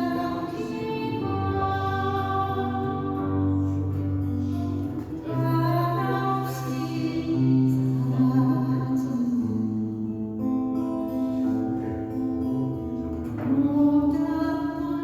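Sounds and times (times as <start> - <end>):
woman singing slow ballad: 0.0 - 11.1, 13.2 - 15.0.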